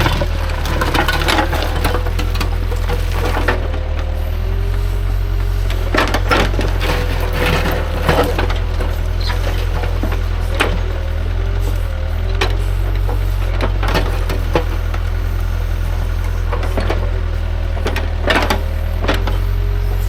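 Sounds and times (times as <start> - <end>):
bucket scraping and knocking rocks: 0.0 - 20.0
diesel engine running: 0.0 - 20.0.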